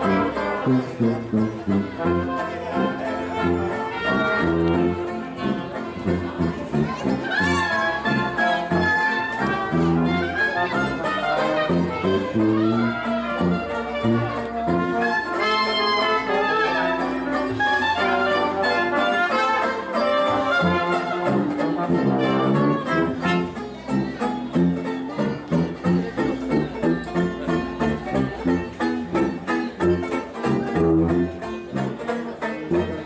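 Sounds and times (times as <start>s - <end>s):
sousaphone bass notes: 0.0s - 16.2s, 20.7s - 33.0s
brass band playing: 0.0s - 33.0s.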